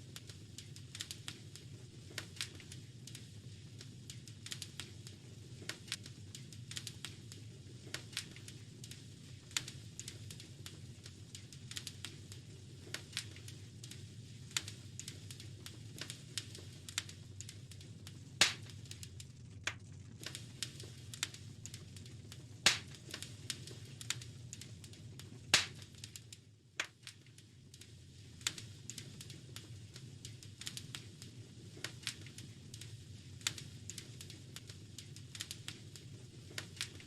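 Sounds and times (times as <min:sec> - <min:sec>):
low fire rumble: 0:00.0 - 0:37.0
wood fire crackling: 0:00.0 - 0:37.0.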